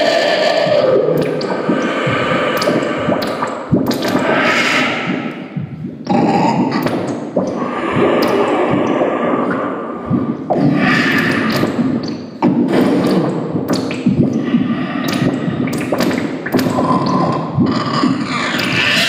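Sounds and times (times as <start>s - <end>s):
harsh electronic noise music: 0.0s - 19.0s.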